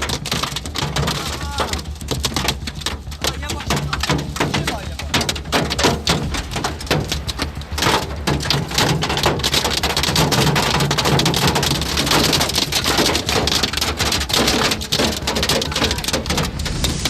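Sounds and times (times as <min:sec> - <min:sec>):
hail clattering: 0:00.0 - 0:17.0
rain rushing: 0:00.0 - 0:17.0.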